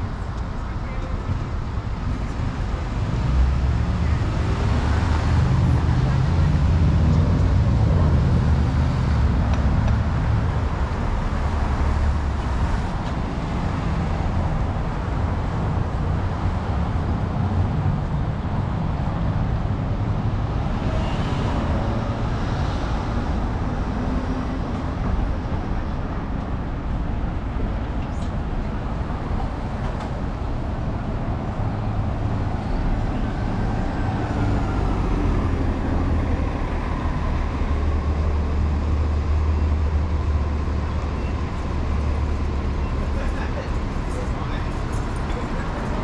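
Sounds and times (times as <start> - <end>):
deep vehicle engine rumble: 0.0 - 46.0
road traffic noise: 0.0 - 46.0.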